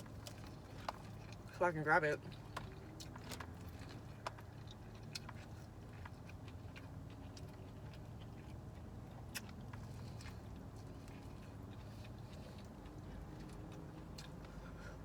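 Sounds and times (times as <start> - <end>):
chewing corn on the cob: 0.0 - 15.0.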